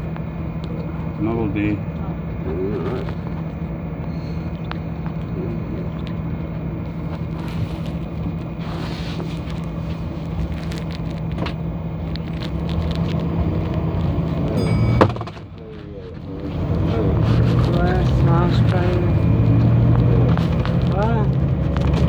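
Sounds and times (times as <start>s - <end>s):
bus engine low drone: 0.0s - 22.0s.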